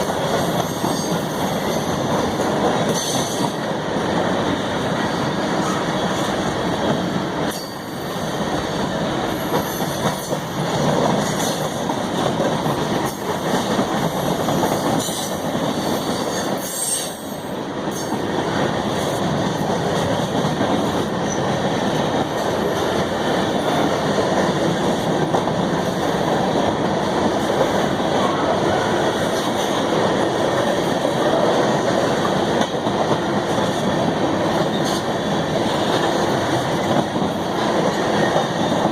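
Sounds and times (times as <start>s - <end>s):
train wheels clattering over rails: 0.0s - 38.9s.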